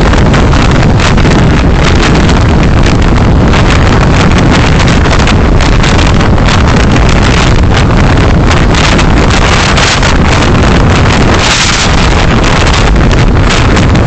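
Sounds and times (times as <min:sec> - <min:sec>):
road and engine rumble: 0:00.0 - 0:14.0
wind buffeting microphone: 0:00.0 - 0:14.0.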